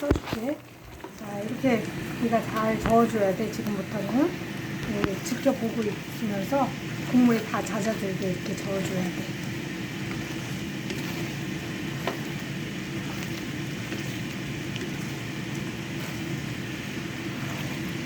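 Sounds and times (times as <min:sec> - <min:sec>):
sauce bubbling and sizzling in pot: 0:00.0 - 0:18.0.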